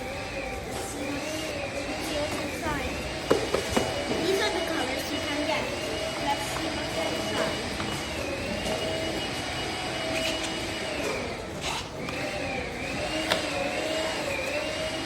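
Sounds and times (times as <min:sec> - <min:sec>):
noisy background: 0:00.0 - 0:15.0
steady wavering hum: 0:00.0 - 0:15.0.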